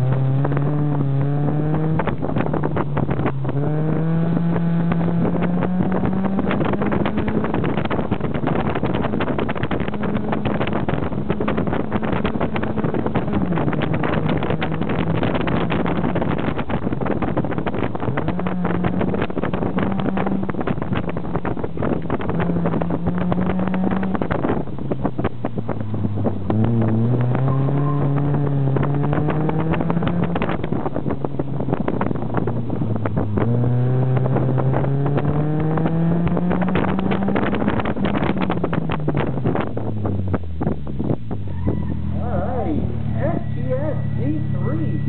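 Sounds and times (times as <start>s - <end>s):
car engine revving: 0.0s - 45.0s
wind buffeting microphone: 0.0s - 45.0s.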